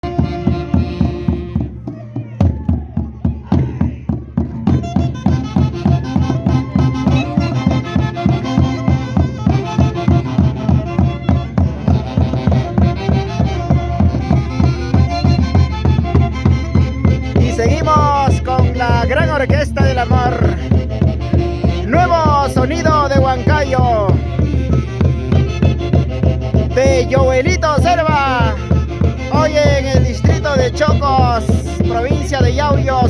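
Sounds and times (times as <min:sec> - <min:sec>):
band playing dance tune: 0:00.0 - 0:33.0
quick steady drum beat: 0:00.0 - 0:33.0.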